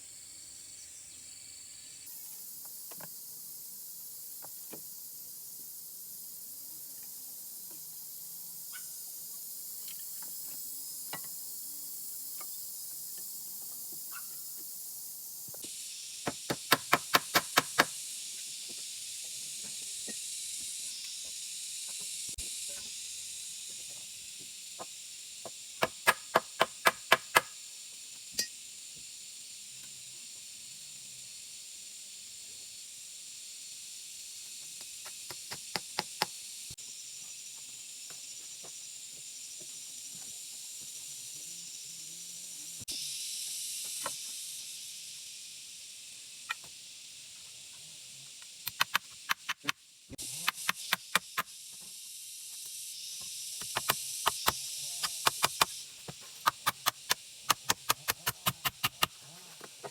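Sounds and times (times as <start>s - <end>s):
steady high hiss: 0.0s - 59.9s.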